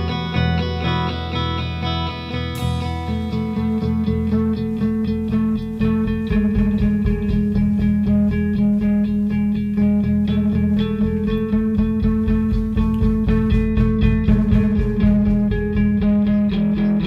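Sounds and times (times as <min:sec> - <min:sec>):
shoegaze rock band music: 0:00.0 - 0:17.0.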